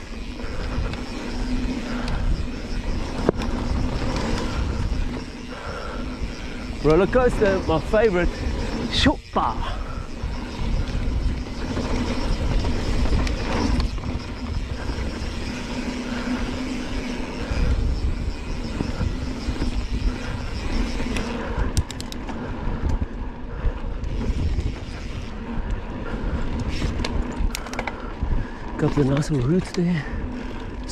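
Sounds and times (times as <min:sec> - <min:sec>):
sharp ticks: 0:00.0 - 0:23.1, 0:23.9 - 0:30.9
wind on microphone: 0:00.0 - 0:28.8
bike tyres rumbling on dirt: 0:00.0 - 0:30.9.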